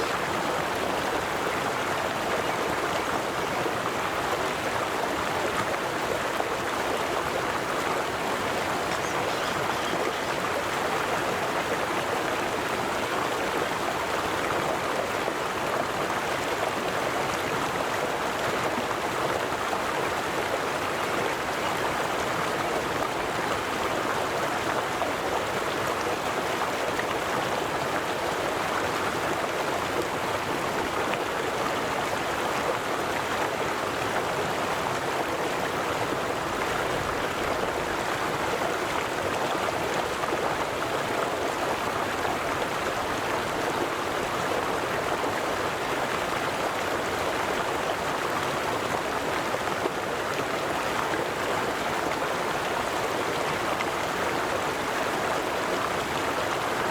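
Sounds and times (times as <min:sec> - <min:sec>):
river water flowing over rocks: 0:00.0 - 0:56.9.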